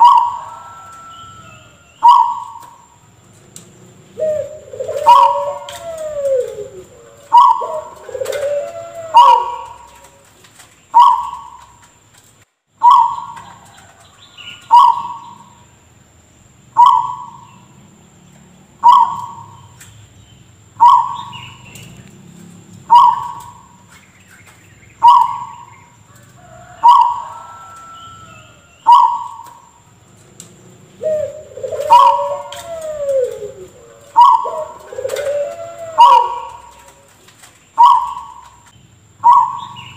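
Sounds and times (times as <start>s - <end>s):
dove cooing: 0.0s - 11.9s, 12.8s - 15.6s, 16.8s - 17.7s, 18.8s - 19.8s, 20.8s - 23.9s, 24.9s - 39.9s
dove calling: 0.0s - 15.8s, 16.7s - 39.9s.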